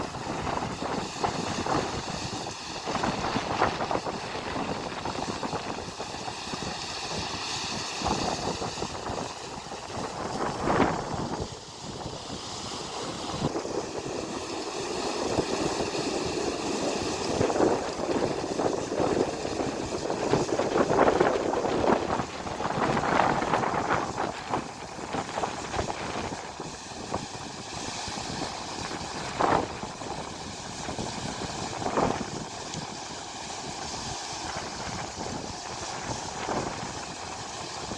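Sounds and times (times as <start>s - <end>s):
river water pouring over a weir: 0.0s - 37.9s
wind buffeting microphone: 0.0s - 37.9s.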